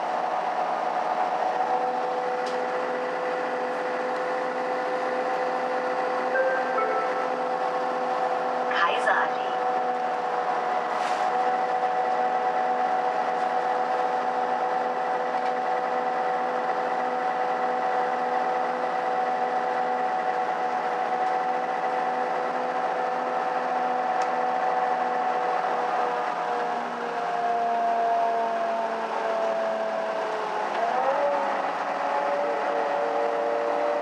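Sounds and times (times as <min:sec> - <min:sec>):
bus engine drone: 0:00.0 - 0:34.0.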